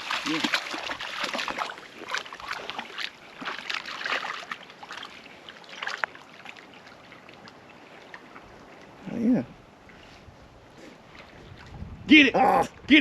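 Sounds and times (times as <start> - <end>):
water splashing and sloshing: 0.0 - 12.9.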